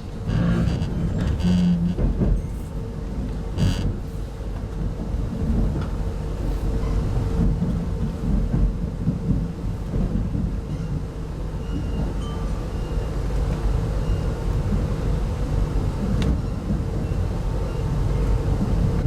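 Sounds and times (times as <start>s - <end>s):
train coach rumbling on rails: 0.0s - 19.0s.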